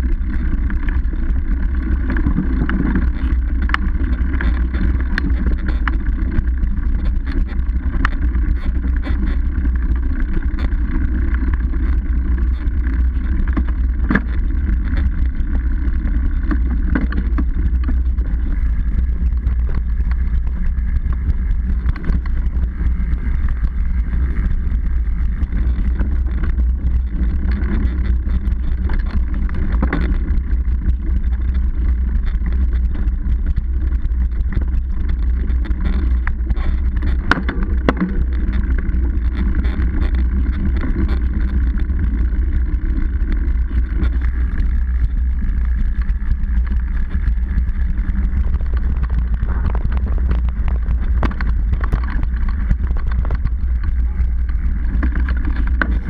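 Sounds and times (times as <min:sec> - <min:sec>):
bike tyre rumble on dirt: 0:00.0 - 0:56.0.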